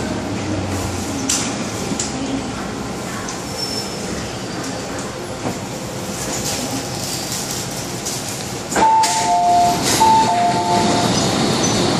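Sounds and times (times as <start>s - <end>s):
train car rumbling to a stop: 0.0s - 11.9s.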